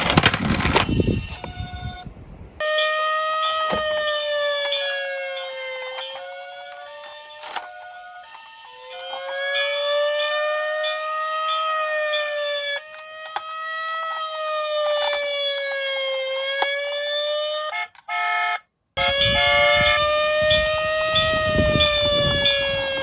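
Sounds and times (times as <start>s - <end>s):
toy siren wailing: 0.6s - 2.0s, 2.6s - 23.0s.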